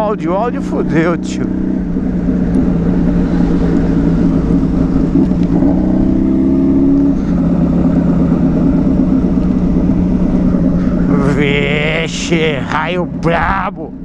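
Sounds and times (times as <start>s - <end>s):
motorcycle engine running: 0.0s - 14.0s
wind rumble: 1.4s - 14.0s.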